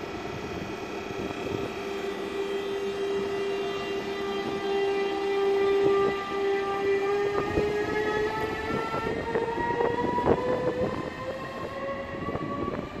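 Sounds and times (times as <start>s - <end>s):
electric locomotive drive whine: 0.0s - 13.0s.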